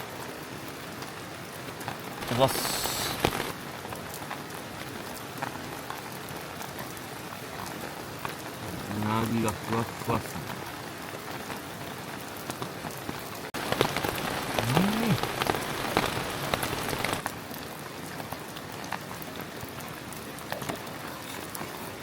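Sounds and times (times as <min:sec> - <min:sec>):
rain pattering on a tarp: 0:00.0 - 0:22.0.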